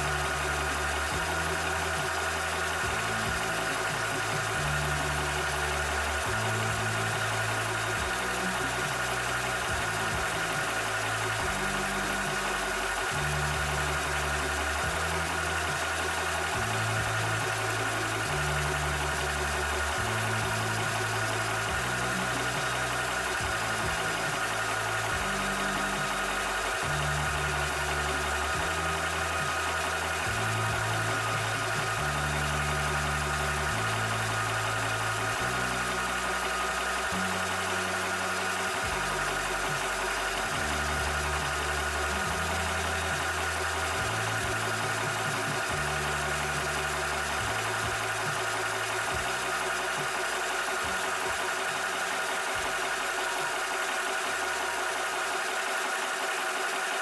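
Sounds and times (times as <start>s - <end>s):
air compressor humming and whining: 0.0s - 57.0s.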